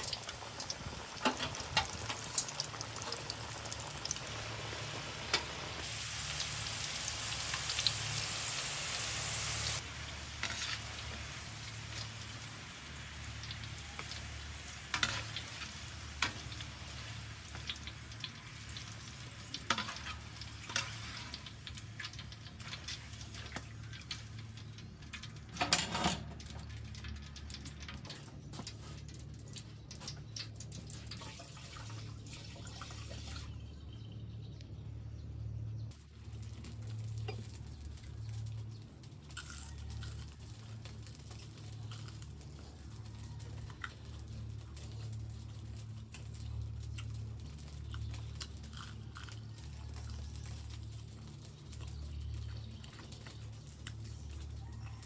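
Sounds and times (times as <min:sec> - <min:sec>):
oil sizzling in wok: 0:00.0 - 0:33.5, 0:35.9 - 0:48.7, 0:49.4 - 0:55.0.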